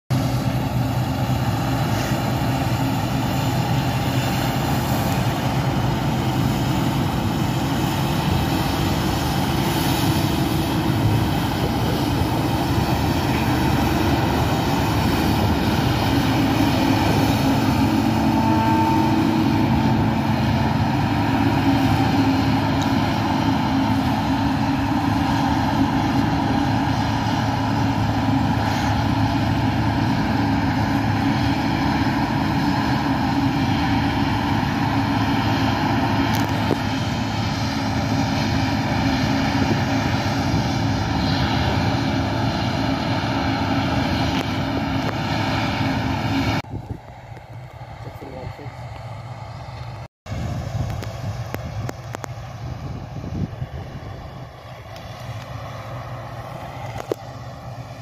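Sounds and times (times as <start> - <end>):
combine harvester engine droning: 0.1 - 58.0.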